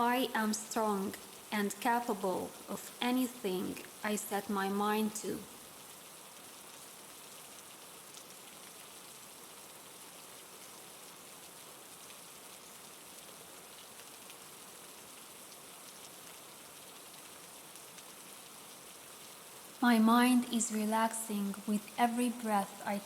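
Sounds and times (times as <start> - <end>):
soft rain falling: 0.0 - 23.0.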